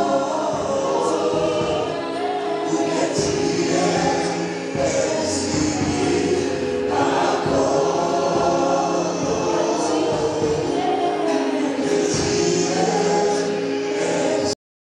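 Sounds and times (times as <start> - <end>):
choir singing gospel music: 0.0 - 14.6
sustained chords: 0.0 - 14.6.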